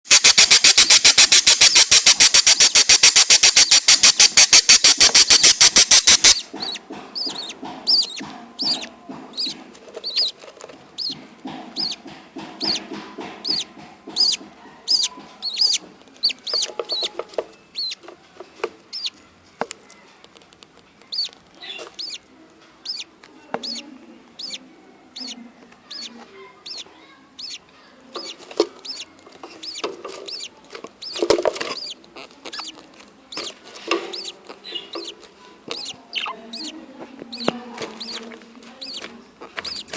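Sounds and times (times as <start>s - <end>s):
budgerigars chirping: 0.1s - 10.4s, 11.0s - 18.0s, 18.9s - 19.2s, 21.1s - 39.9s.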